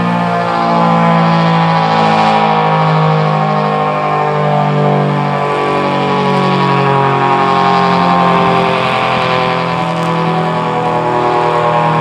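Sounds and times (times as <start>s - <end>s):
tornado siren wailing: 0.0s - 12.0s.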